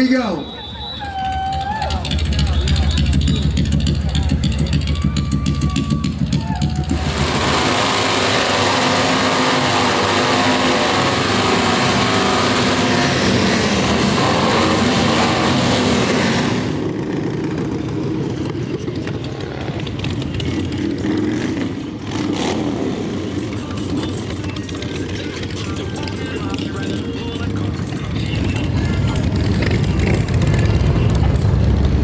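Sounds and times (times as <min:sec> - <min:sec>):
motorcycle engine revving: 0:01.2 - 0:32.0.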